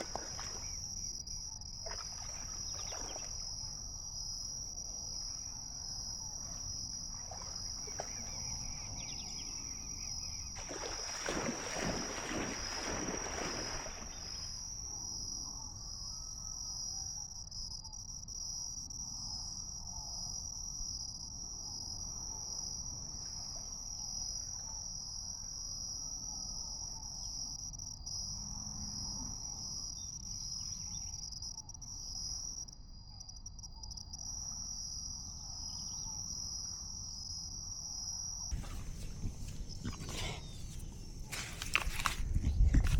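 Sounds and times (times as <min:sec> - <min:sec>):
insect chorus trilling: 0:00.0 - 0:42.9.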